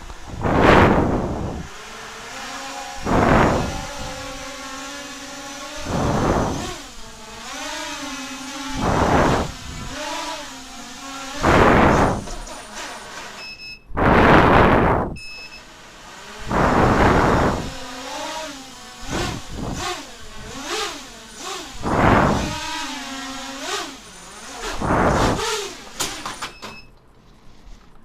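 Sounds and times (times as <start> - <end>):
electric motor whining: 0.0 - 13.4, 14.0 - 26.4
harsh stuttering motor surges: 0.0 - 13.4, 14.0 - 15.2, 16.0 - 26.2.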